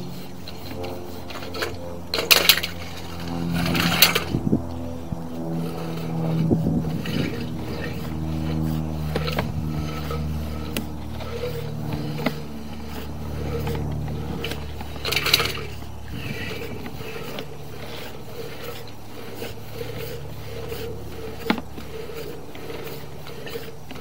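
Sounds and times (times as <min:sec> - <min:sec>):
cable scraping: 0:00.0 - 0:24.0
low hum: 0:00.0 - 0:24.0
rustling scrape: 0:00.0 - 0:24.0.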